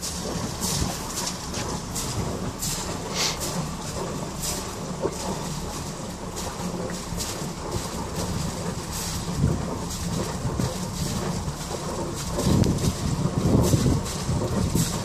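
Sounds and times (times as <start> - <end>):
water rushing into canal lock: 0.0 - 15.0.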